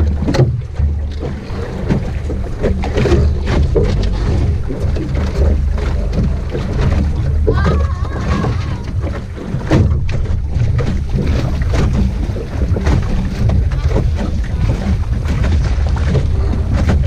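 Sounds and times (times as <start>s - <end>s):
water splashing against hull: 0.0s - 17.0s
wind rumbling on microphone: 0.0s - 17.0s.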